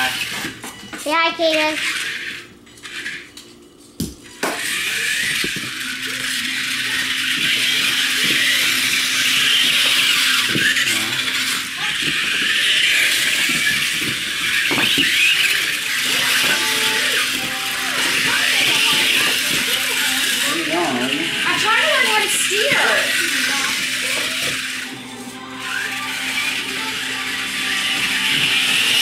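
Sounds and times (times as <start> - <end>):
whir of small electric motors: 0.0 - 29.0.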